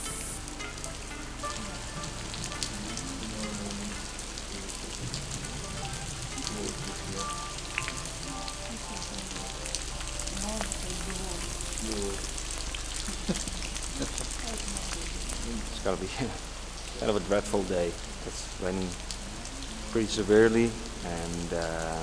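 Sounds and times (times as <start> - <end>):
heavy rain on grass: 0.0 - 22.0.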